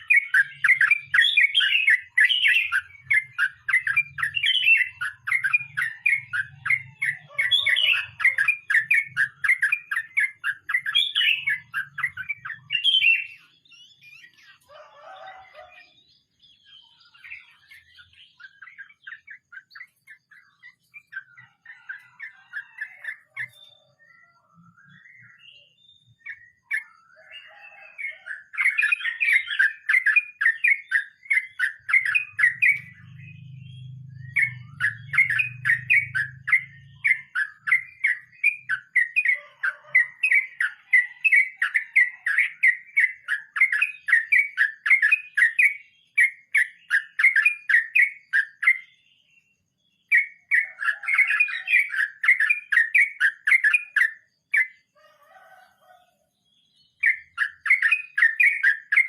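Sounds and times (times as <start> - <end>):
bird singing rapid chirps: 0.0 - 59.0.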